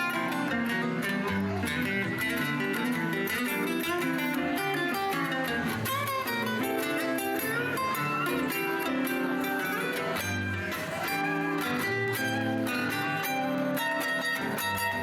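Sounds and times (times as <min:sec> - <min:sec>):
lead guitar notes bending: 0:00.0 - 0:15.0.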